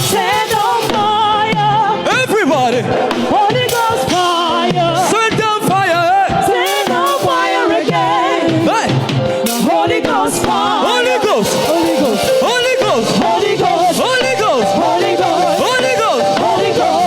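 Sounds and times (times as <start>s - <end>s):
band playing gospel music: 0.0s - 17.0s
person singing with vibrato: 0.0s - 17.0s.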